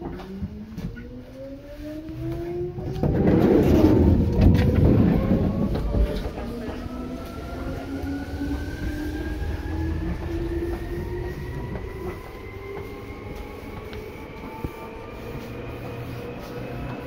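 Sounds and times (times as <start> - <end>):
wheels rumbling on rails: 0.0 - 17.0
train motor whine rising: 0.1 - 17.0.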